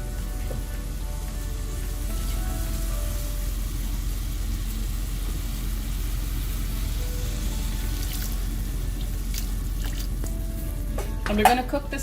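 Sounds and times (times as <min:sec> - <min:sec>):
masala sizzling in a pan: 0:00.0 - 0:11.0
steady low hum: 0:00.0 - 0:12.0.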